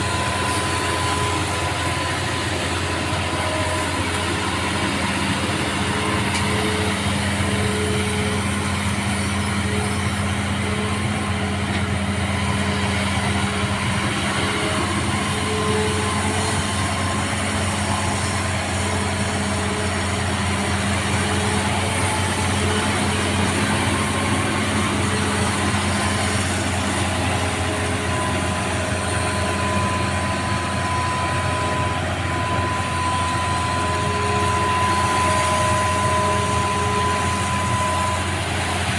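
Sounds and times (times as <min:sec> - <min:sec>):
diesel engine running: 0:00.0 - 0:38.9
thin steady whine: 0:00.0 - 0:38.9.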